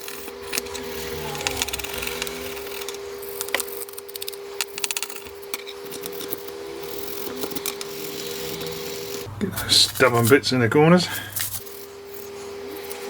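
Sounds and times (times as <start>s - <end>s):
small clicks and scrapes: 0.0s - 9.3s, 11.3s - 13.0s
toothbrush scrubbing plastic: 0.0s - 13.0s.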